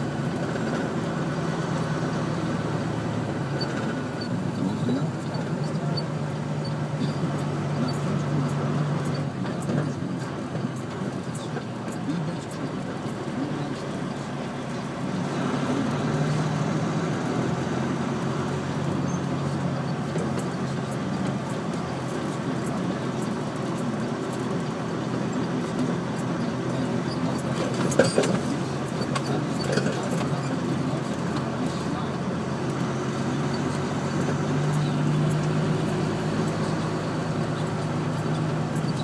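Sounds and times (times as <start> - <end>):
heavy machinery engine running: 0.0 - 39.0.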